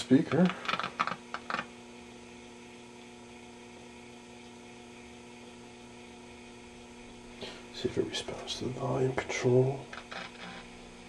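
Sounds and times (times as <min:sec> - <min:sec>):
radio speaker mains hum: 0:00.0 - 0:11.0.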